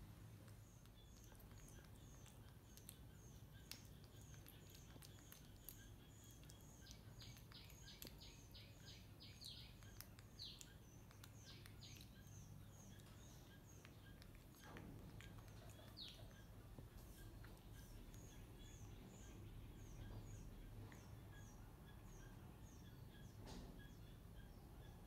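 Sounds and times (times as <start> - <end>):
low steady hum: 0.0 - 25.0
faint high chirps: 0.1 - 25.0.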